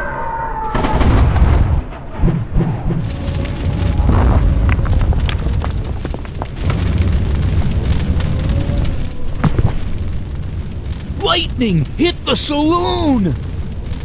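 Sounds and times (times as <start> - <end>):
crackling flames: 0.8 - 14.0
low rumble: 0.9 - 14.0.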